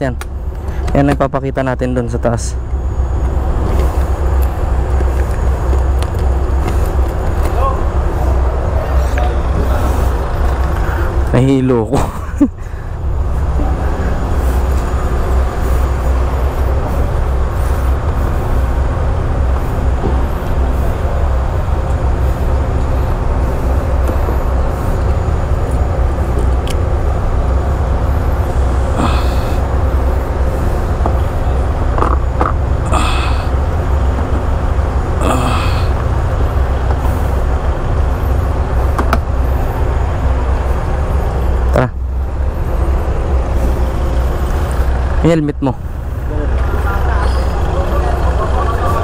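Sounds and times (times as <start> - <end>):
large engine droning: 0.0 - 49.0.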